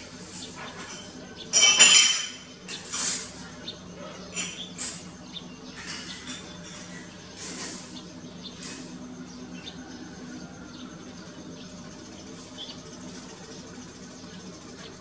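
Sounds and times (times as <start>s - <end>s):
harsh scratchy bird calls: 0.0s - 15.0s.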